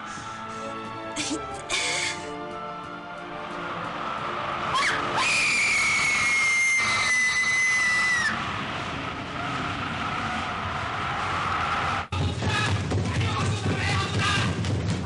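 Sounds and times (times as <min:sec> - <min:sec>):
steady rushing noise: 0:02.8 - 0:15.0.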